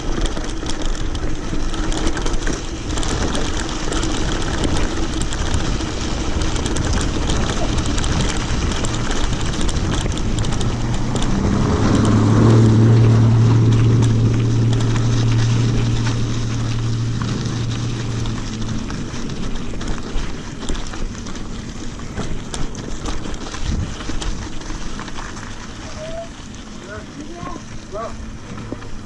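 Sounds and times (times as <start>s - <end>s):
wind noise on microphone: 0.0s - 26.4s
motor engine humming: 0.0s - 29.0s.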